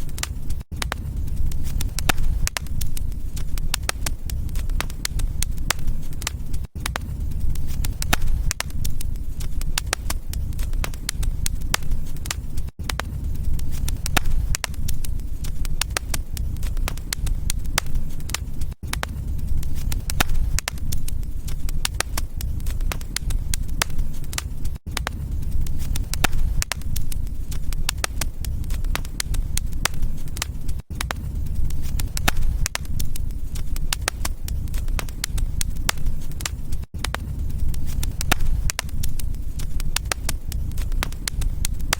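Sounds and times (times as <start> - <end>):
fireplace fire crackling: 0.0 - 41.9.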